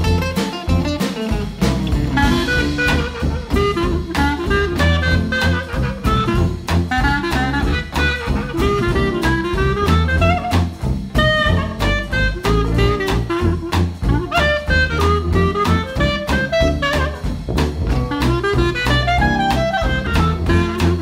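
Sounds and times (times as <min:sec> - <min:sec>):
brass: 0:00.0 - 0:21.0
saxophone: 0:00.0 - 0:21.0
steady drum beat: 0:00.0 - 0:21.0.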